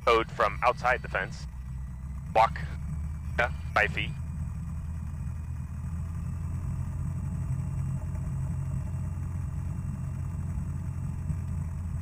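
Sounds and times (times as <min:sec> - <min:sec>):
propeller plane engine idling: 0:00.0 - 0:12.0.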